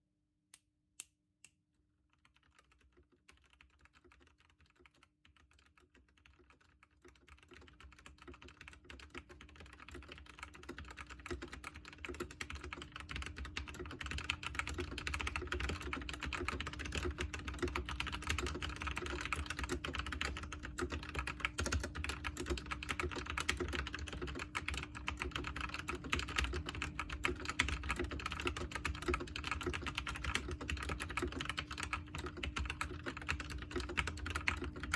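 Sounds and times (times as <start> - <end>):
mechanical keyboard typing: 2.2 - 34.9.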